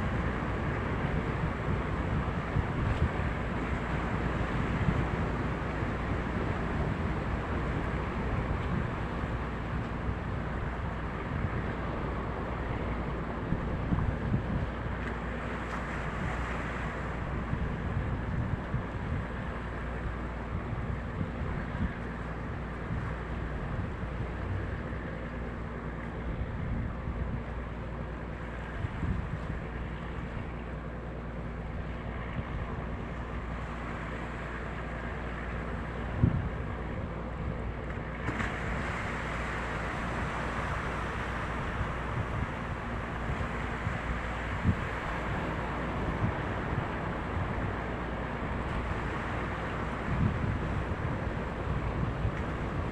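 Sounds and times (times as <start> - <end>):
boat engine drone: 0.0 - 52.9
water rushing: 0.0 - 52.9
wind on microphone: 0.0 - 52.9.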